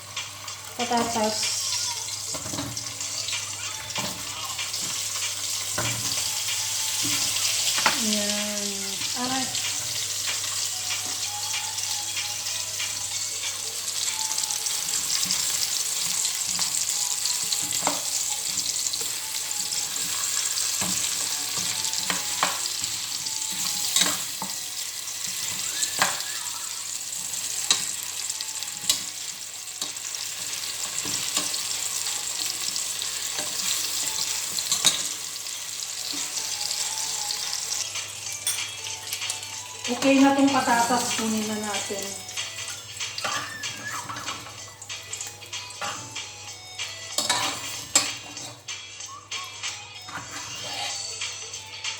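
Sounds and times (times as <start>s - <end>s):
potatoes sizzling in hot oil: 0.0s - 48.7s.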